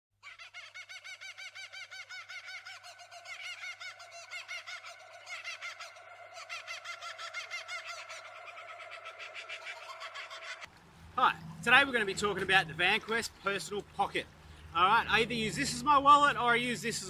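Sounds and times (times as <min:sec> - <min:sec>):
birds chirping: 0:00.8 - 0:17.0.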